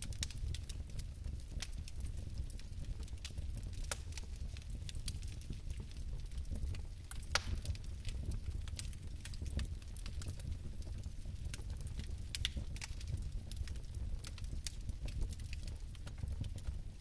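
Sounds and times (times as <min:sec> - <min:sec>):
fireplace fire crackling: 0:00.0 - 0:17.0
low rumble of burning: 0:00.0 - 0:17.0.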